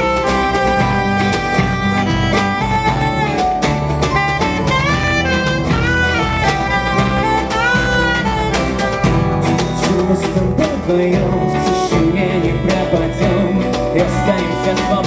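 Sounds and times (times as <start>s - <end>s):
bending sliding lead melody: 0.0s - 15.0s
live band playing: 0.0s - 15.0s.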